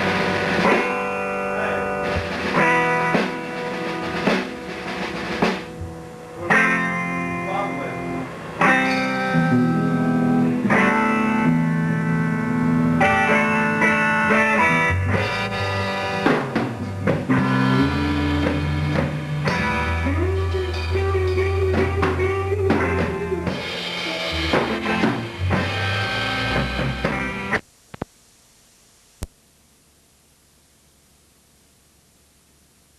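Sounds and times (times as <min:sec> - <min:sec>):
live rock band playing: 0:00.0 - 0:27.6.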